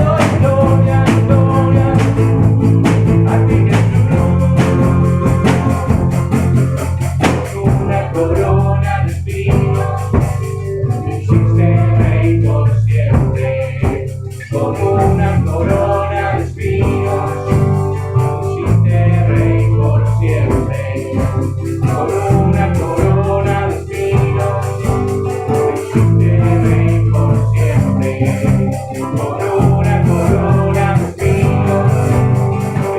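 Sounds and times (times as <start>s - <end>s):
drums: 0.0s - 32.9s
guitar: 0.0s - 32.9s
worship song by band: 0.0s - 32.9s.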